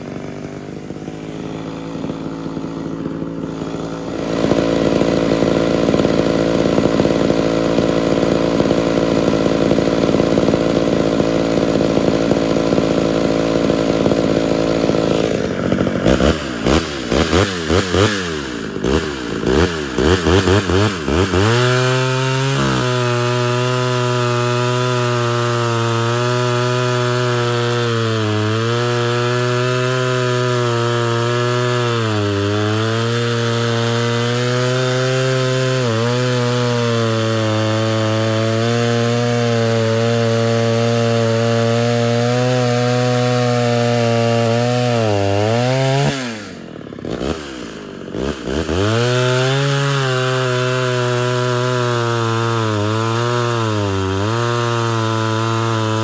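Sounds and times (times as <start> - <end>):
chainsaw running: 0.0 - 56.0
chainsaw throttle blips: 0.0 - 56.0.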